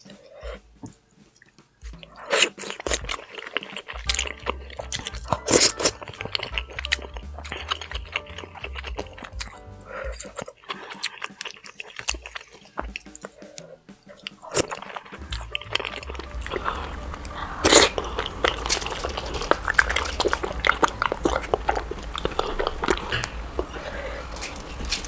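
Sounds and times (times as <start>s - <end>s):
quiet background music: 0.0s - 25.0s
chewing and wet mouth sounds: 1.4s - 25.0s.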